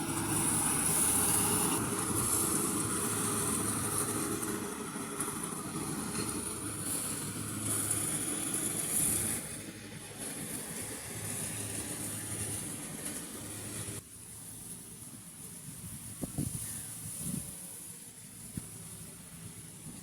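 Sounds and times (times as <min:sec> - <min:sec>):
combine harvester running: 0:00.0 - 0:16.1, 0:16.9 - 0:20.0.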